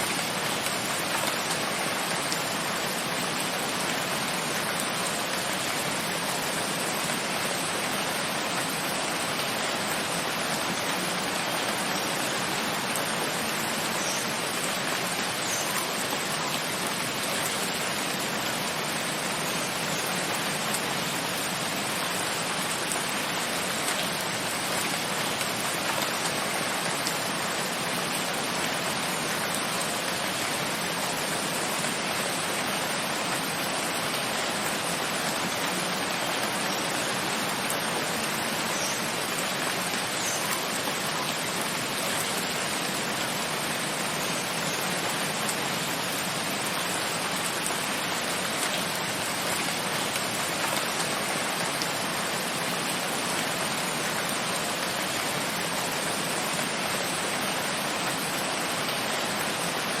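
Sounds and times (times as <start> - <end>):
steady rain hissing: 0.0 - 60.0.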